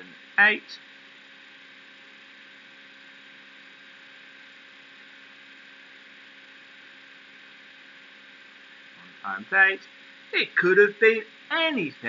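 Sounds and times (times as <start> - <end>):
faint electrical hum: 0.0 - 12.0
steady hiss: 0.0 - 12.0.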